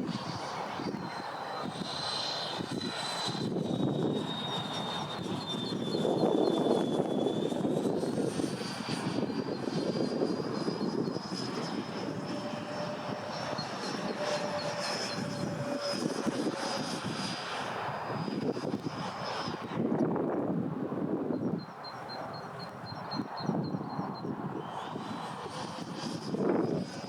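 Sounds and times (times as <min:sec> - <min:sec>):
electric ducted fans whining: 0:00.0 - 0:27.0.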